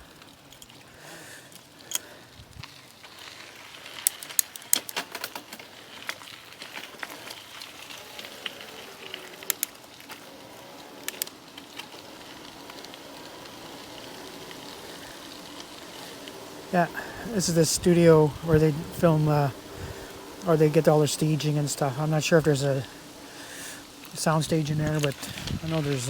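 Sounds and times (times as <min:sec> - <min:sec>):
bicycle rolling on trail: 0:00.0 - 0:26.0
sharp ticks and crackles: 0:00.0 - 0:26.0.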